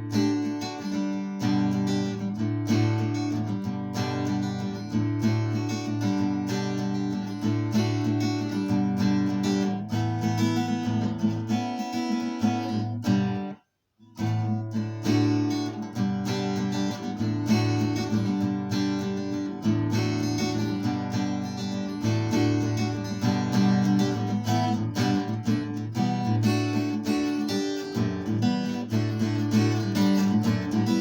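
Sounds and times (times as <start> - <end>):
fingerstyle acoustic guitar: 0.0 - 31.0.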